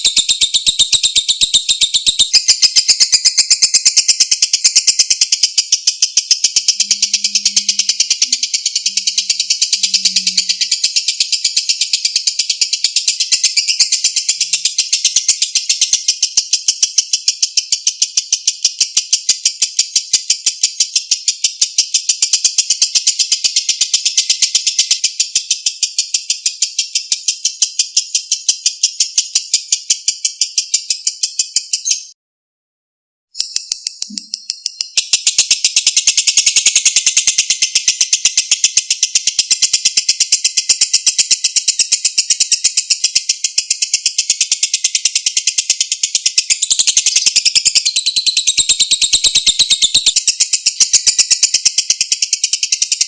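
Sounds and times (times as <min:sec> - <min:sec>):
lovebird chattering trill: 0:00.0 - 0:32.2, 0:33.4 - 0:53.0.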